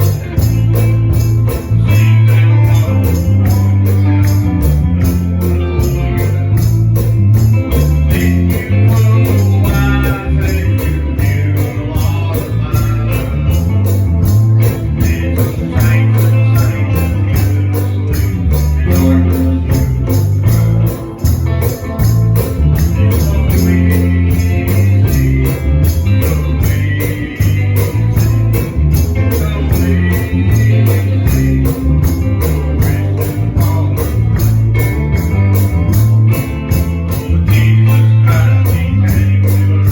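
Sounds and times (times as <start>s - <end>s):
gospel band playing: 0.0s - 39.9s
person singing: 0.0s - 39.9s
tambourine beat: 0.0s - 39.9s.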